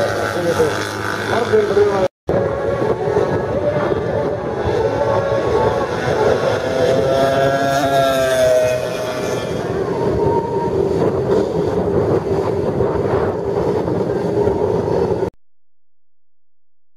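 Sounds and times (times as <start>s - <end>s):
motorcycle passing at speed: 0.0s - 15.3s
rough engine sound: 0.0s - 15.3s.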